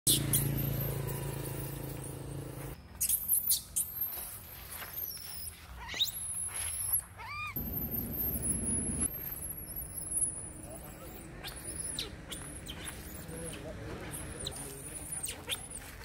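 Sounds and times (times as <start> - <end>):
baby monkey squealing: 0.1 - 1.8, 3.0 - 4.3, 4.9 - 16.0.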